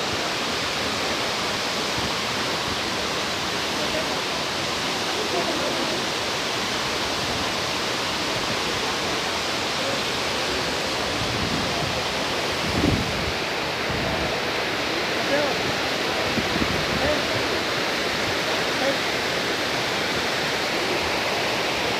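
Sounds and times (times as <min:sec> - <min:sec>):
waterfall roar: 0:00.0 - 0:21.9.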